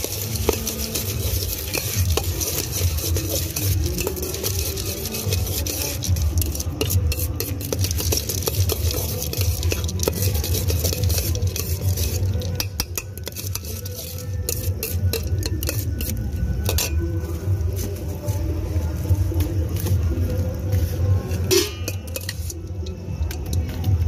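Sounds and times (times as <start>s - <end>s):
spoon clinking and scraping steel bowl: 0.0s - 18.0s, 21.3s - 23.7s.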